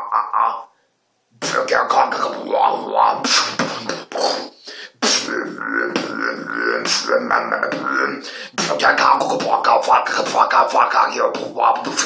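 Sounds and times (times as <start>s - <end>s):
held pitched vocal hum: 1.4s - 12.0s
person beatboxing: 1.4s - 12.0s.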